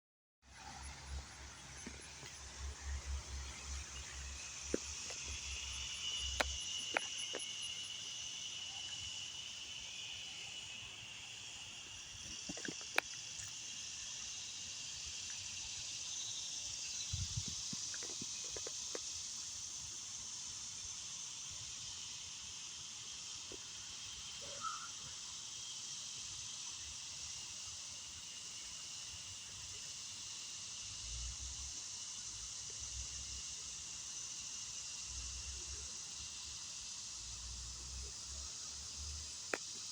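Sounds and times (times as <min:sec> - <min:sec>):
high-pitched insect chorus: 0:00.5 - 0:39.9.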